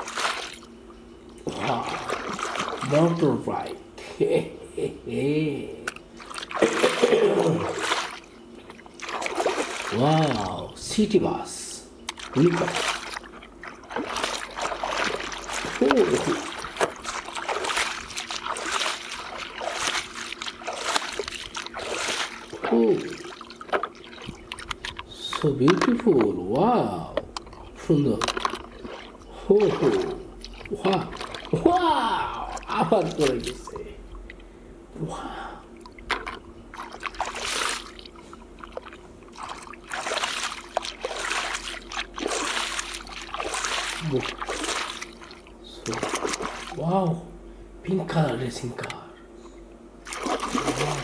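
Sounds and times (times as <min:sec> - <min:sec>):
water splashing and trickling: 0:00.0 - 0:03.7, 0:06.2 - 0:11.0, 0:12.1 - 0:26.3, 0:27.4 - 0:33.8, 0:35.7 - 0:46.9, 0:50.0 - 0:51.0.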